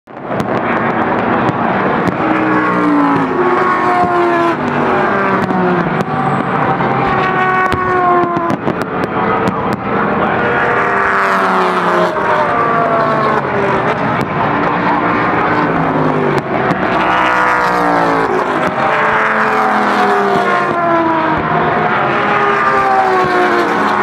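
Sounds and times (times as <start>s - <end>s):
firework bangs: 0.1s - 10.9s, 12.2s - 24.0s
race car engines passing: 0.1s - 24.0s.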